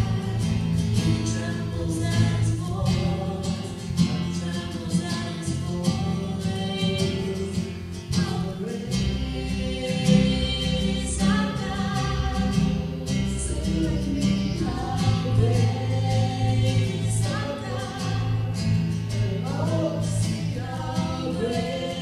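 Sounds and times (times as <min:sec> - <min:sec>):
electric guitar: 0:00.0 - 0:22.0
low bass: 0:00.0 - 0:22.0
strummed acoustic guitar: 0:00.0 - 0:22.0
woman singing: 0:00.0 - 0:22.0.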